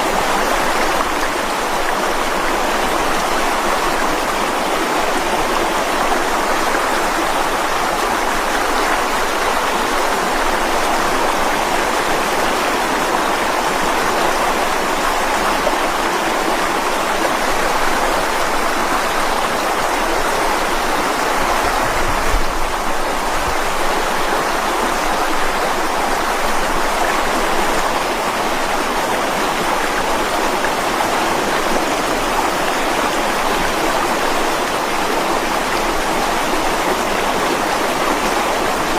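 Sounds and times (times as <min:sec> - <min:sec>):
stream splashing over rocks: 0:00.0 - 0:38.9.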